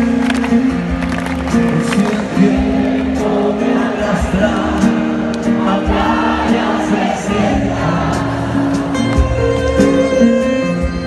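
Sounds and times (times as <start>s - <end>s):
live pop-rock band: 0.0s - 11.0s.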